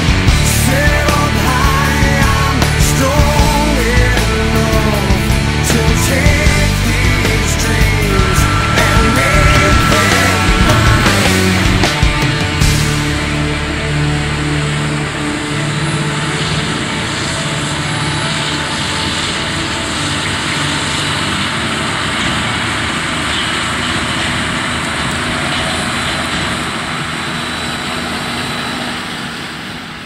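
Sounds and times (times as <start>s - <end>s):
harvest machinery noise: 0.0s - 30.0s
tractor engine under load: 0.0s - 30.0s.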